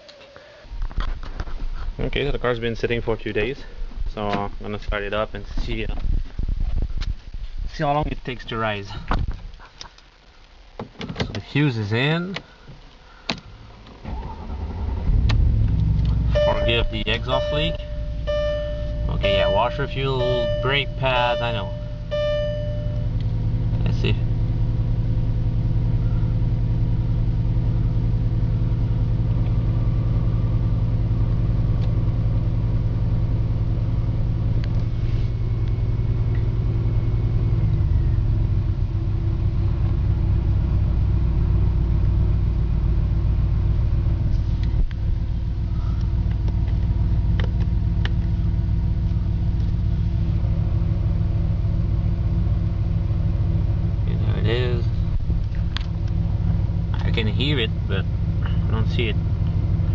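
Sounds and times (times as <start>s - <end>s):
car engine idling with exhaust leak: 8.5s - 59.9s.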